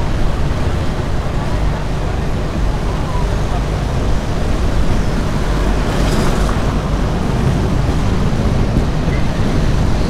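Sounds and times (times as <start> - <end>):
streetcar rumbling along street: 0.0 - 10.0
wind noise on microphone: 0.0 - 10.0.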